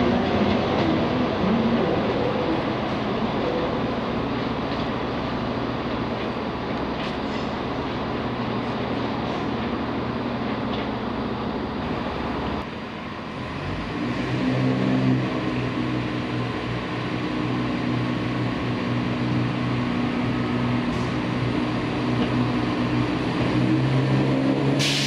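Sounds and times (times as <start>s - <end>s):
diesel train engine droning: 0.0s - 25.0s
train leaving a tunnel: 0.0s - 25.0s.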